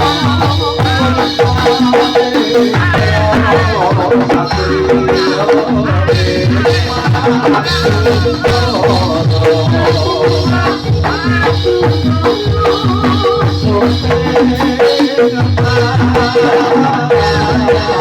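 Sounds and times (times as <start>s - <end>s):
hand drum playing: 0.0s - 18.0s
rattling percussion: 0.0s - 18.0s.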